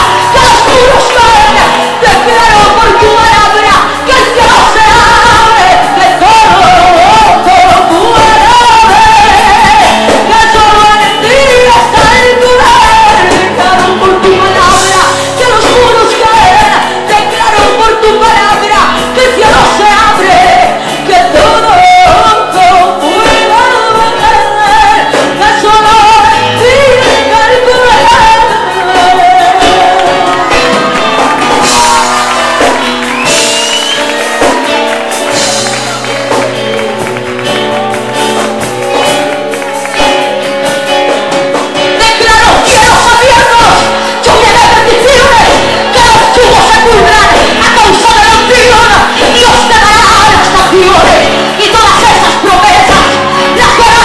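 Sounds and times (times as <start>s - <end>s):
woman singing into a microphone: 0.0s - 34.8s, 41.8s - 54.0s
instrumental accompaniment: 0.0s - 54.0s.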